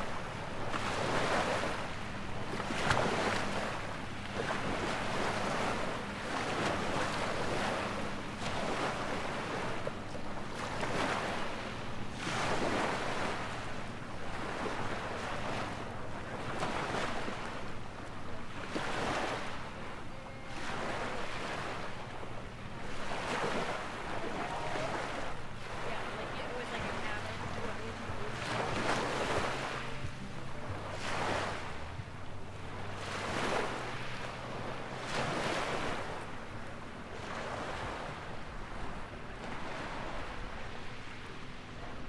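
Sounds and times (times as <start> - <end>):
waves washing onto beach: 0.0 - 42.0.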